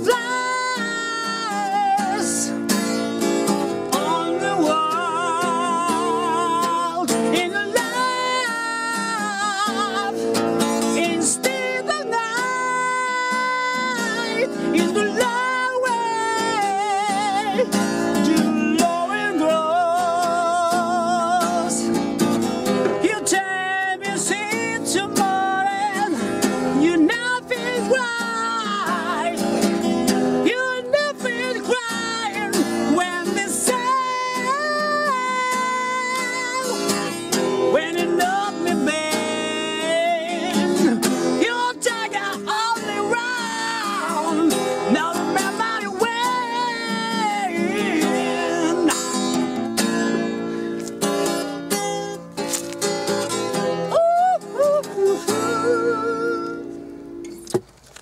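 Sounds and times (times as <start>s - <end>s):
wordless singing voice: 0.0s - 2.7s, 3.8s - 22.0s, 22.9s - 29.7s, 30.4s - 49.6s, 53.9s - 56.8s
acoustic guitar: 0.0s - 58.0s.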